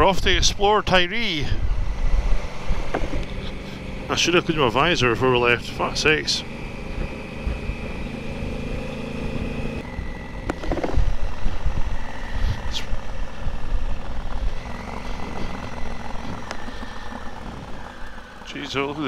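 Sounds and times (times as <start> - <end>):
wind buffeting microphone: 0.0 - 4.1, 6.5 - 19.0
motorcycle engine running: 0.0 - 19.0.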